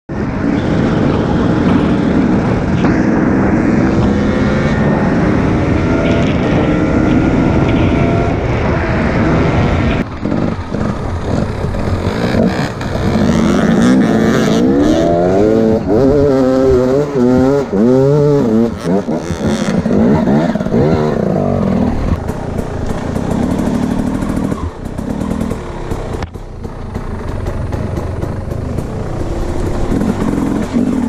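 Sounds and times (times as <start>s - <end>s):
motorcycle engine cruising: 0.1s - 31.0s
wind noise: 0.1s - 31.0s
motorcycle revving hard: 0.2s - 31.0s.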